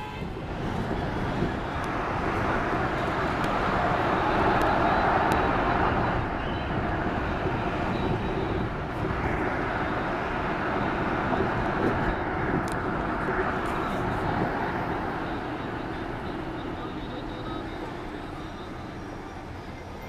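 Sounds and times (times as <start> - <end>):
vehicle road and engine noise: 0.0 - 20.0.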